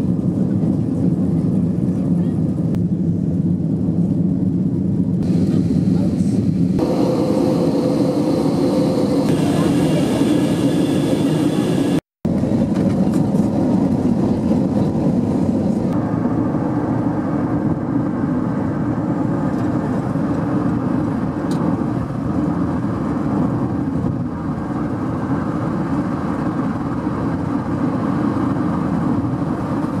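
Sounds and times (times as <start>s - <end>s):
moving car running noise: 0.0s - 30.0s.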